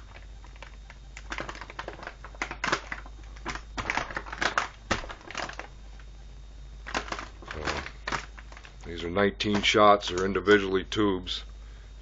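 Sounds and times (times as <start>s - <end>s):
cardboard and plastic packaging rustling: 0.0s - 6.1s, 6.8s - 10.4s.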